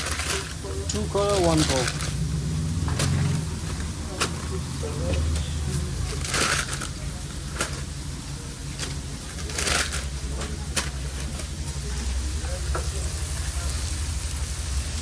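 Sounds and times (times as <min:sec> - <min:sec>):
kitchen clatters and rustles: 0:00.0 - 0:13.1
low hum: 0:00.1 - 0:15.0.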